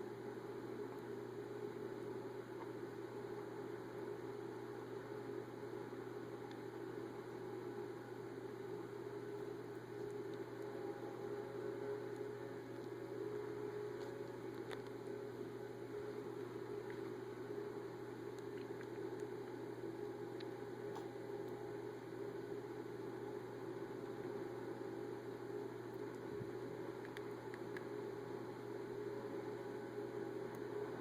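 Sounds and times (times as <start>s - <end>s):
low hum with hiss: 0.0s - 31.0s.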